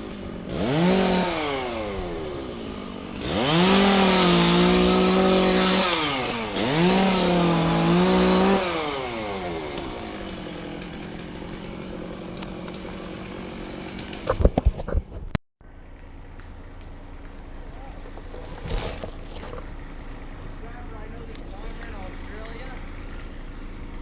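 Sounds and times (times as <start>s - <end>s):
chainsaw revving and idling: 0.0s - 14.6s, 16.5s - 24.0s.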